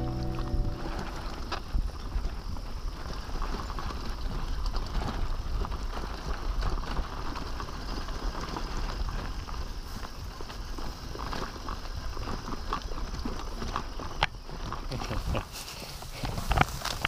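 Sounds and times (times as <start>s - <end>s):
bicycle tyres on gravel: 0.0s - 17.0s.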